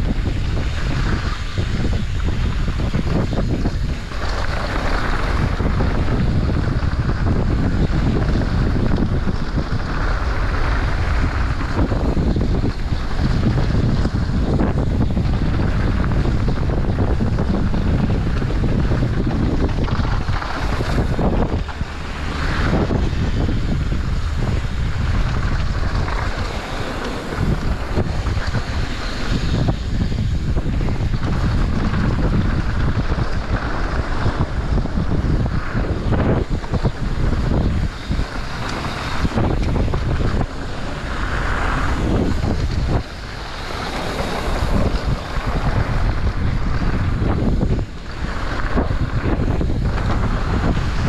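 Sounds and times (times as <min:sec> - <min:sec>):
low rumble of bike tyres: 0:00.0 - 0:51.0
wind rushing over microphone: 0:00.0 - 0:51.0.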